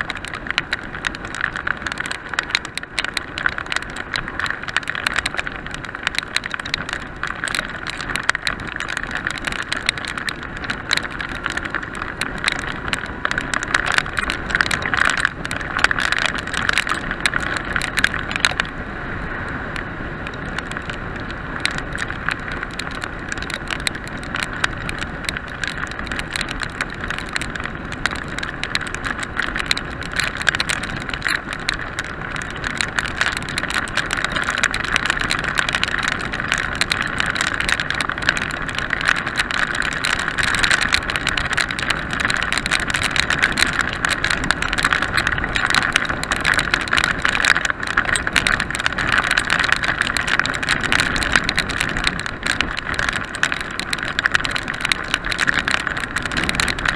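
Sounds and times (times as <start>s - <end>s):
wet road noise: 0.0s - 56.9s.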